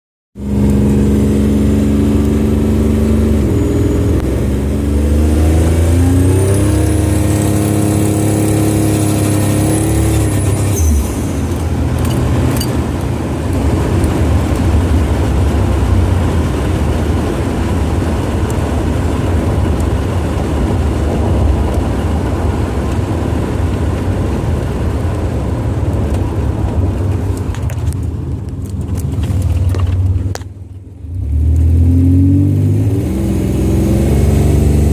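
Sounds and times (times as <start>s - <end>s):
car engine pulling under boost: 0.4s - 34.9s.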